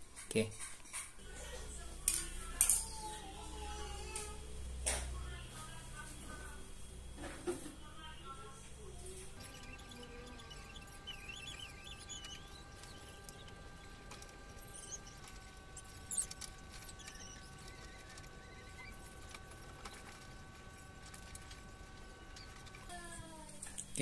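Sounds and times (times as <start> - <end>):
faint steady hum of held tones: 1.2 - 24.0.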